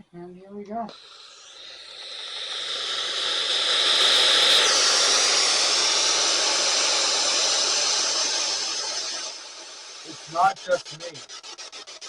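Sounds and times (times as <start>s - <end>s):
radio static hissing: 0.9s - 11.7s.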